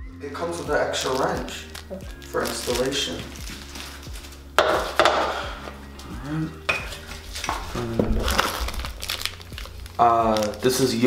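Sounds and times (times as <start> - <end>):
plastic bag rustling: 0.5 - 11.0.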